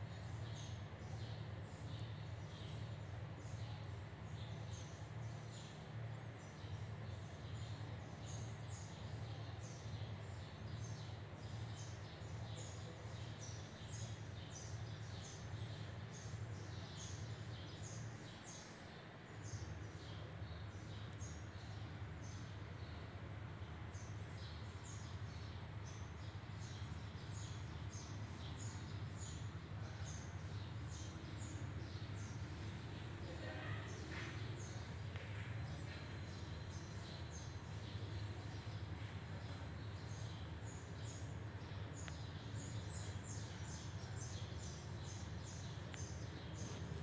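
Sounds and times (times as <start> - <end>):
low steady hum: 0.0 - 47.0
small birds chirping: 0.0 - 47.0.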